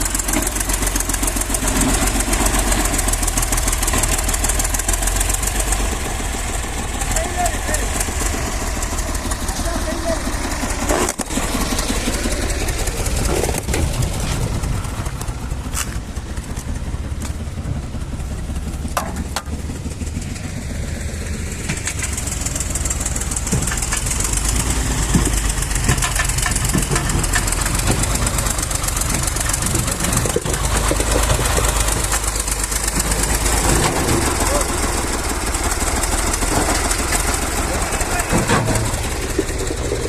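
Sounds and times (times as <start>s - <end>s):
knocks and rattles: 0.0s - 20.0s, 21.6s - 40.0s
tractor engine rumbling: 0.0s - 40.0s.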